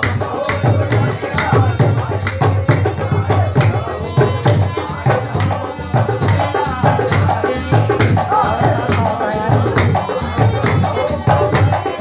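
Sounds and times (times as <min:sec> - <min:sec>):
group devotional singing: 0:00.0 - 0:12.0
rhythmic hand-clapping: 0:00.0 - 0:12.0
steady drum beat: 0:00.0 - 0:12.0.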